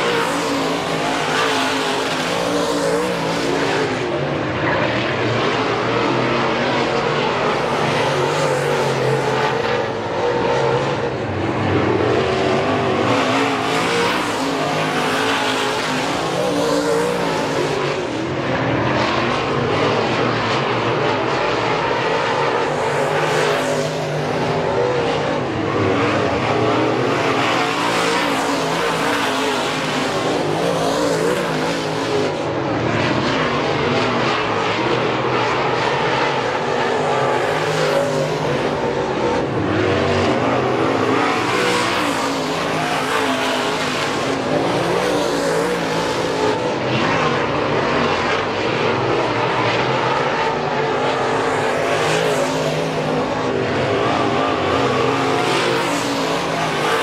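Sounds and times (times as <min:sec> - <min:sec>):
race car engines roaring: 0:00.0 - 0:57.0.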